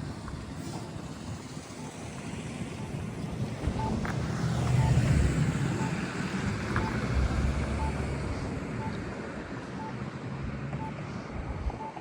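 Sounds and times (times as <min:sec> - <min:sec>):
rumble of road traffic: 0:00.0 - 0:12.0.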